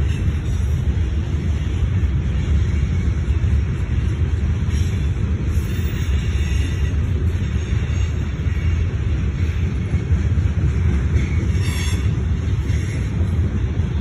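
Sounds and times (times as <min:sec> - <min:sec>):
freight train rumbling: 0:00.0 - 0:14.0
train wheels squealing: 0:00.0 - 0:14.0.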